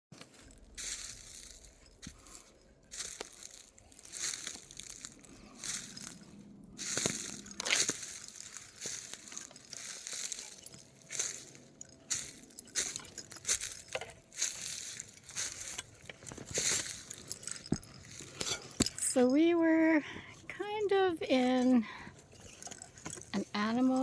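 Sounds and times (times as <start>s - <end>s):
crunching footsteps on trail: 0.1s - 24.0s.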